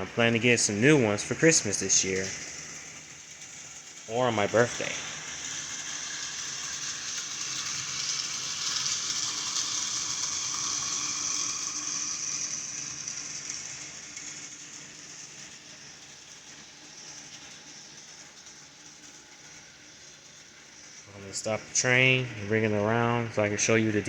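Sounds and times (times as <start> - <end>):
model train running on track: 0.0 - 24.0.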